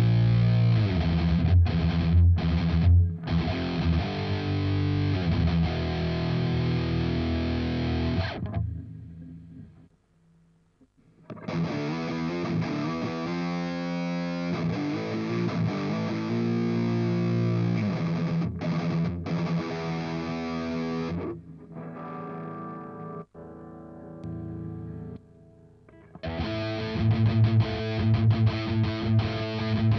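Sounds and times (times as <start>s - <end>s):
distorted electric guitar chords: 0.0s - 9.9s, 11.3s - 29.9s.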